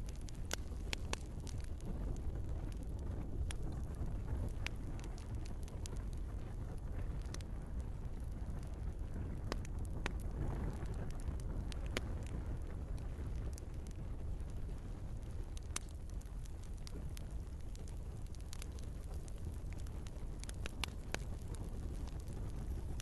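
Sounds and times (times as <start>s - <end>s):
logs crackling and popping: 0.0s - 23.0s
low roar of flames: 0.0s - 23.0s.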